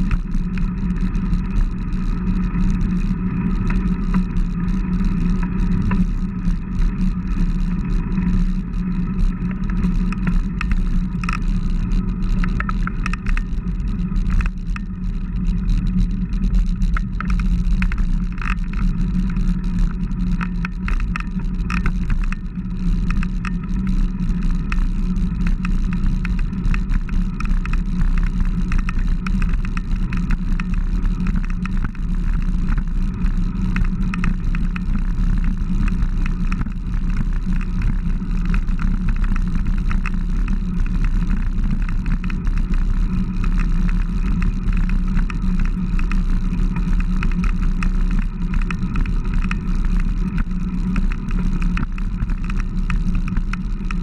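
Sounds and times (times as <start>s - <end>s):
wind and road rumble: 0.0s - 54.0s.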